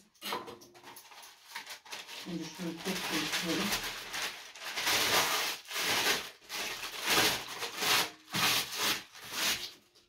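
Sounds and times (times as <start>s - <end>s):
baking paper rustling in a tray: 0.8s - 10.0s.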